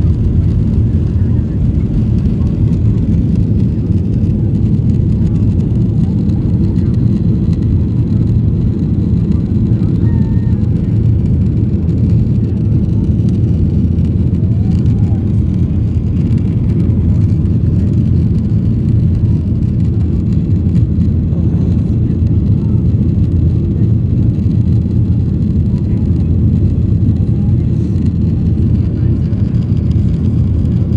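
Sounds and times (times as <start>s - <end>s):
jet engines at takeoff power: 0.0s - 30.9s.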